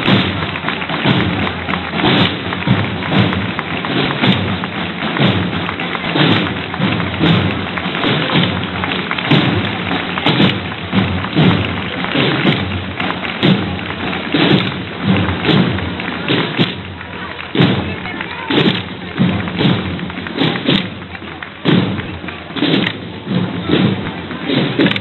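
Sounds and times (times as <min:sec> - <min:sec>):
slow heavy drumbeat: 0:00.0 - 0:25.0.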